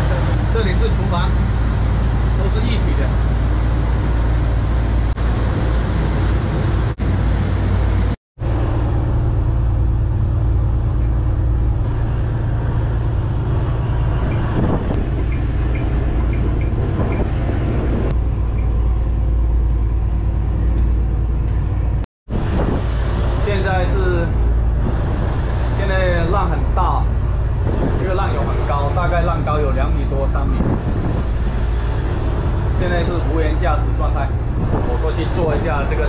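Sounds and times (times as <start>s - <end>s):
boat engine deep drone: 0.0s - 36.0s.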